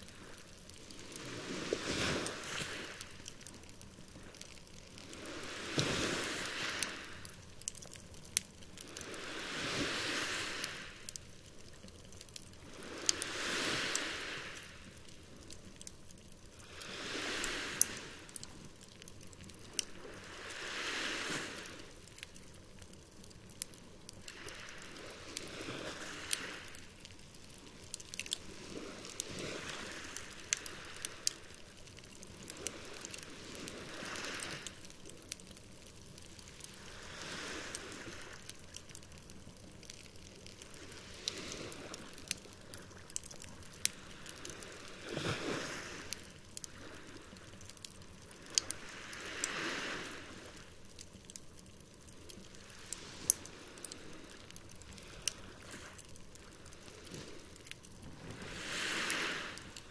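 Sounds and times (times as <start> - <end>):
campfire crackling and popping: 0.0 - 59.9
small waves washing on shore: 0.0 - 59.9.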